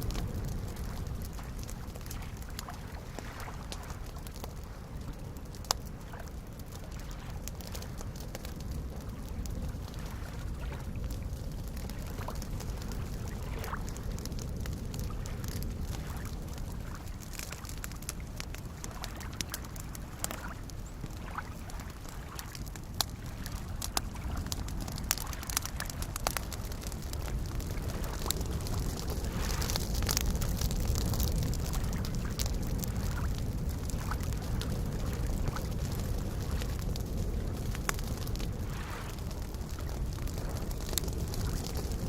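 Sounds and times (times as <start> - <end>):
campfire crackling and popping: 0.0 - 42.0
lake waves lapping: 0.4 - 8.1, 8.9 - 14.1, 14.7 - 36.8, 37.5 - 41.9.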